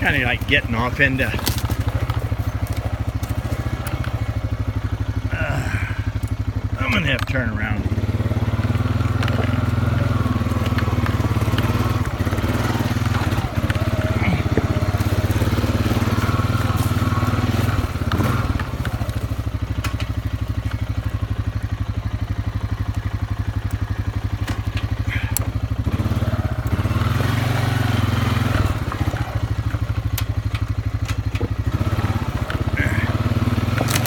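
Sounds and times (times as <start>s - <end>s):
atv engine idling: 0.0s - 34.0s.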